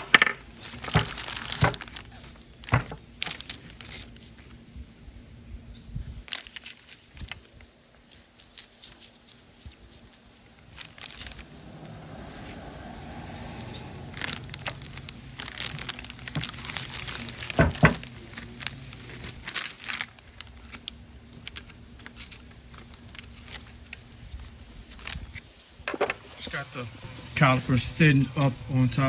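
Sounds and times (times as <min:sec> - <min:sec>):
crinkling and rustling: 0:00.0 - 0:04.7, 0:06.2 - 0:29.0.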